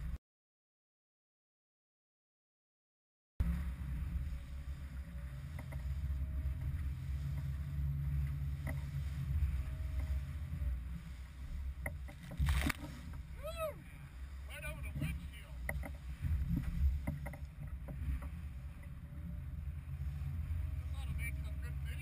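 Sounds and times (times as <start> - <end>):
boat bow knocking on waves: 3.4 - 21.8
hull through water and spray: 3.4 - 22.0
wind buffeting microphone: 3.4 - 22.0.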